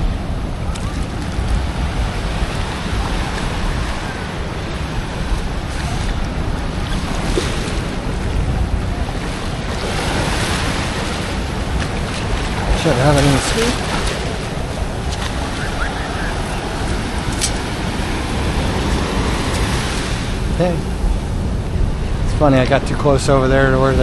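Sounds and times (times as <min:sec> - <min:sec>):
ocean surf washing: 0:00.0 - 0:24.0
wind buffeting microphone: 0:00.0 - 0:24.0.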